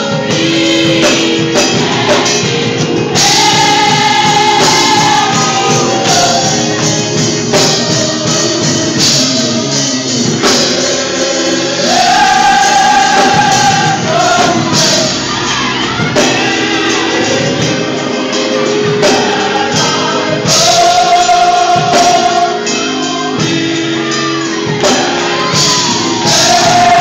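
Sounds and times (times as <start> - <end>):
gospel choir singing: 0.0 - 27.0.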